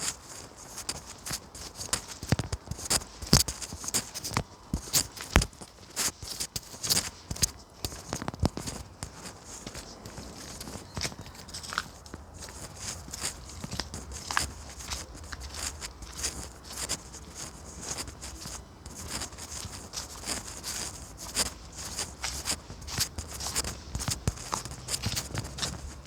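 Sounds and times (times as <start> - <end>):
footsteps crunching: 0.0 - 26.0.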